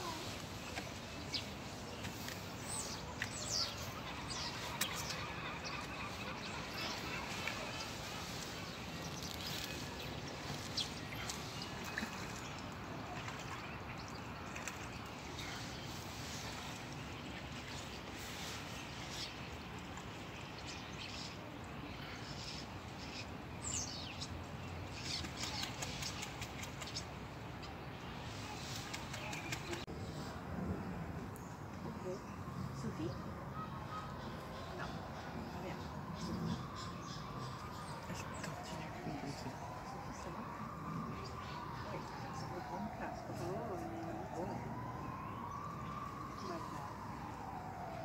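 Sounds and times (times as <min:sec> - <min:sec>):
birds chirping: 0:00.0 - 0:30.3, 0:31.3 - 0:48.0.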